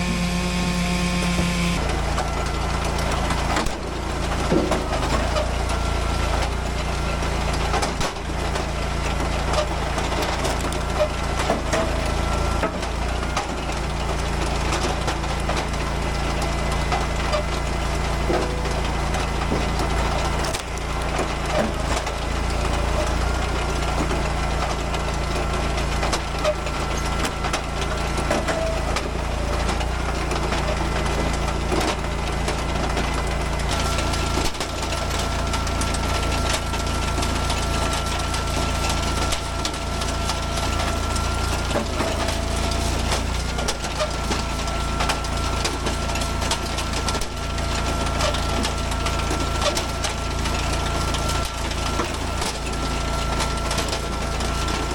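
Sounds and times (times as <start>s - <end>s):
gas engine running with whine: 0.0s - 54.9s
wood cracking and splintering: 0.0s - 54.9s.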